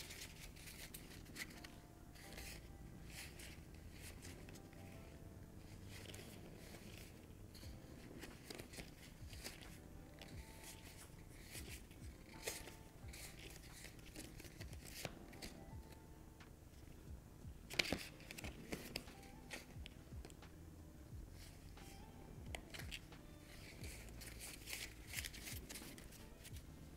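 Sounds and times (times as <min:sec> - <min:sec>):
playing cards clicking and snapping: 0:00.0 - 0:04.7, 0:05.8 - 0:15.6, 0:17.7 - 0:20.6, 0:21.4 - 0:26.7
faint background music: 0:00.0 - 0:26.9.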